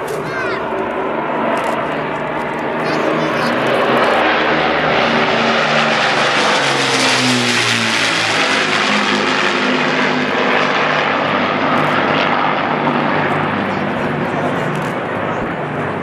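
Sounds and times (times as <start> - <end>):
propeller plane passing overhead: 0.0 - 16.0.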